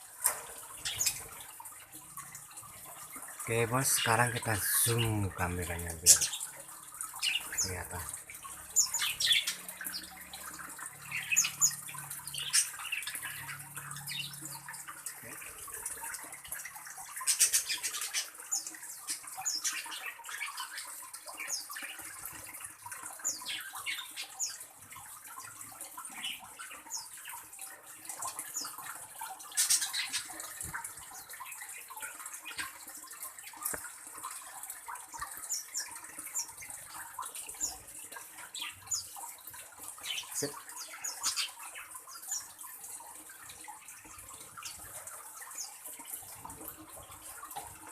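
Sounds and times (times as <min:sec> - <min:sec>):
small birds chirping: 0:00.3 - 0:42.6.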